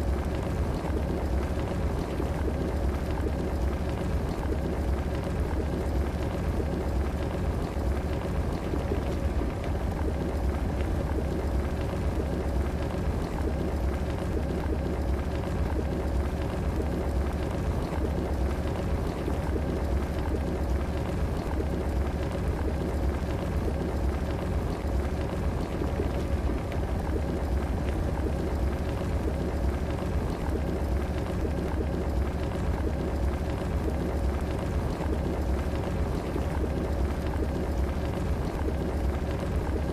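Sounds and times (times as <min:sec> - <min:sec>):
faint steady hum: 0:00.0 - 0:39.9
kettle water bubbling: 0:00.0 - 0:39.9.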